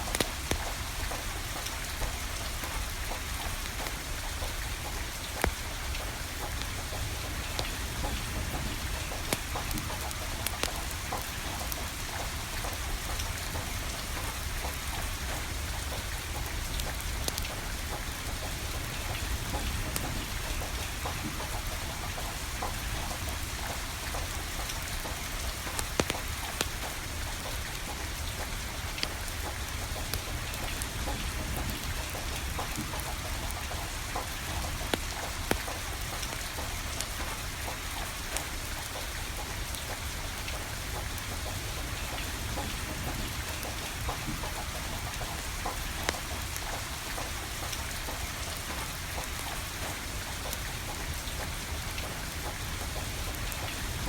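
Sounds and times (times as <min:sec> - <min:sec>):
wood fire crackling: 0:00.0 - 0:19.4, 0:20.2 - 0:54.0
rain falling: 0:00.0 - 0:54.0.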